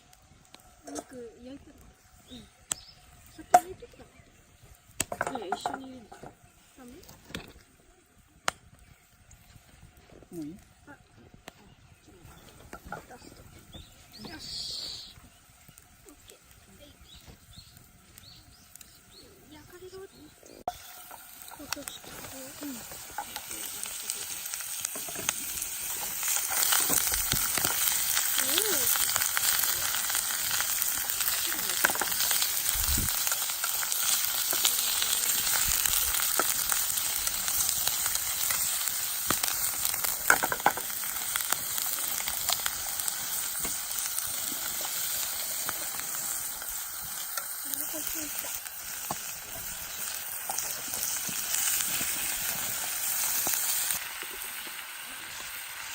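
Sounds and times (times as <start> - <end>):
meat sizzling: 0.0 - 55.9.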